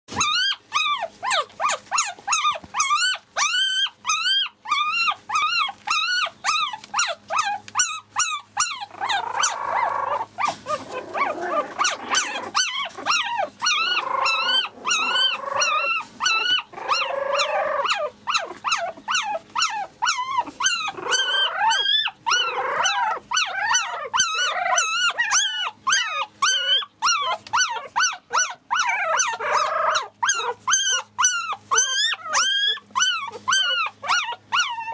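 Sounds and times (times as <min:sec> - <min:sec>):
puppies whining and squeaking: 0:00.1 - 0:34.9.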